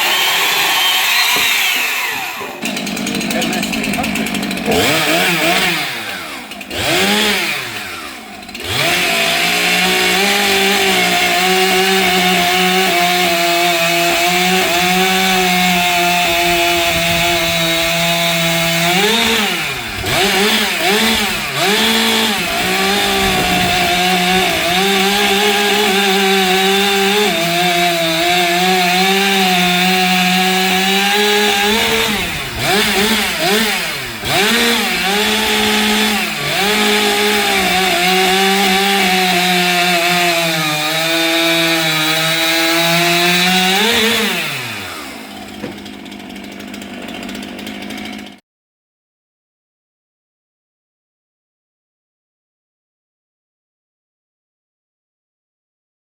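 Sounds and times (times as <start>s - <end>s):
chainsaw cutting timber: 0.0s - 48.4s.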